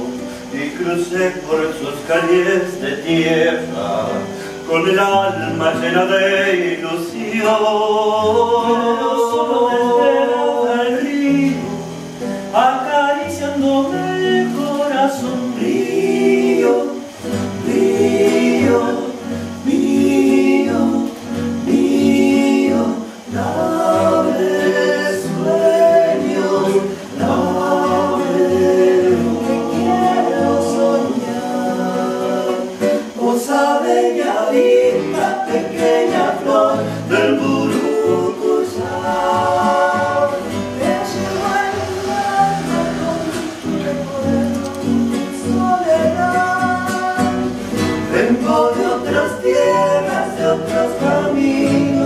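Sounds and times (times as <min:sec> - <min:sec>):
classical guitar: 0:00.0 - 0:52.0
voices singing in harmony: 0:00.0 - 0:52.0.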